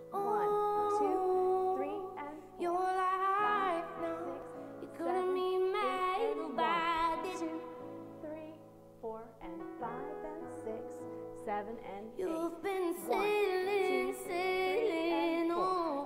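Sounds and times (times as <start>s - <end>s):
soft musical accompaniment: 0.0s - 16.0s
woman singing slow song: 0.0s - 16.0s.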